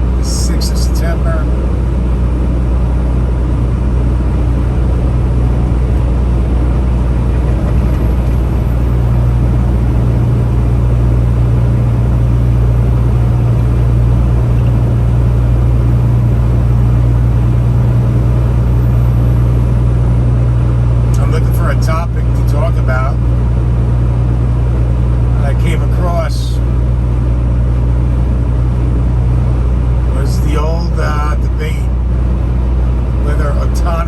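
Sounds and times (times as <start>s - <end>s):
diesel engine hum: 0.0s - 34.0s
road noise: 0.0s - 34.0s.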